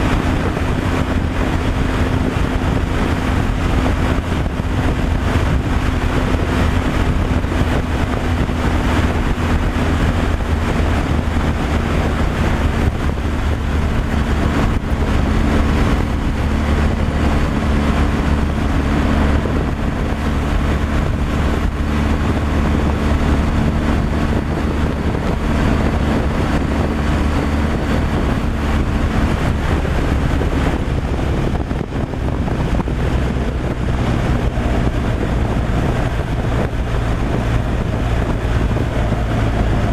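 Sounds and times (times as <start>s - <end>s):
road and wind noise: 0.0s - 39.9s
truck engine drone: 0.0s - 39.9s.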